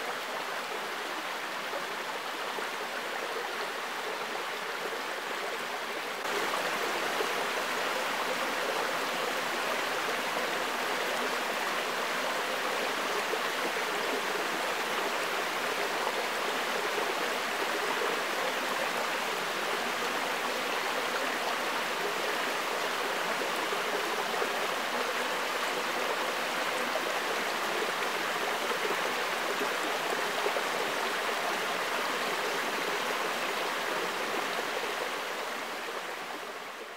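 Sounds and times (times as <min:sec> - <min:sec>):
creek flowing over rocks: 0:00.0 - 0:36.9.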